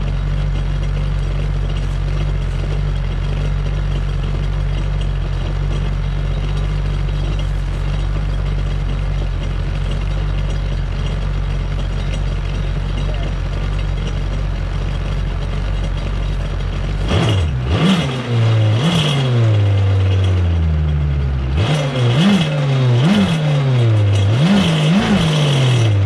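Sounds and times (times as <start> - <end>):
jet ski engine idling: 0.0 - 21.6.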